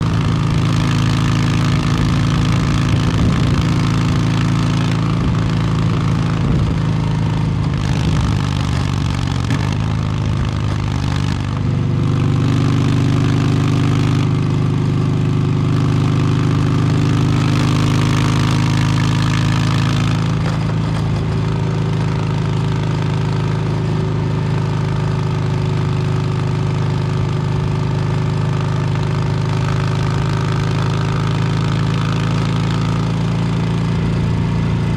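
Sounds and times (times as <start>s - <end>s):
motorcycle engine running at low revs: 0.0s - 34.9s.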